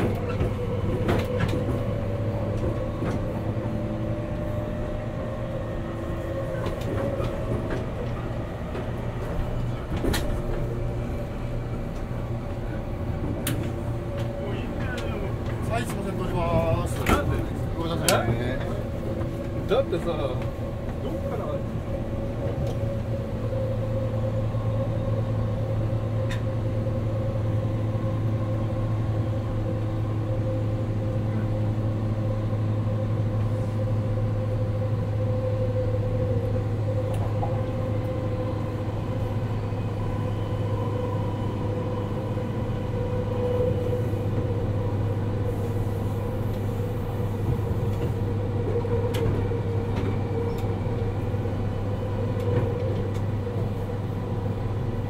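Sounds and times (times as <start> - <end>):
train motor hum: 0.0 - 55.0
train wheels on rails: 0.0 - 55.0.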